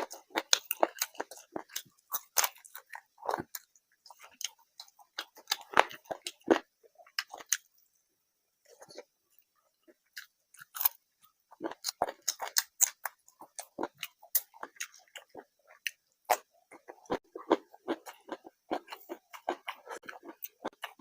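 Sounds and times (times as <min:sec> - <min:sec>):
chewing and mouth sounds: 0:00.0 - 0:07.7, 0:09.8 - 0:21.0.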